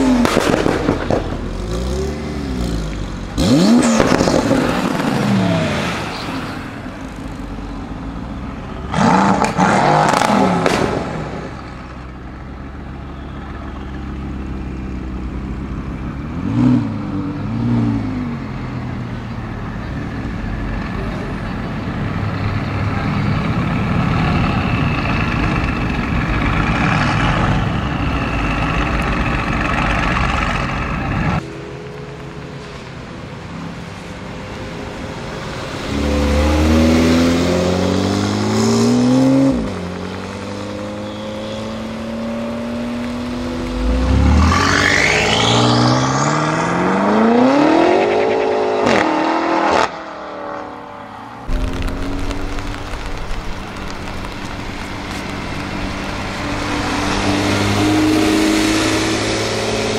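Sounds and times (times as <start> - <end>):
sports car engine: 0.0 - 59.9.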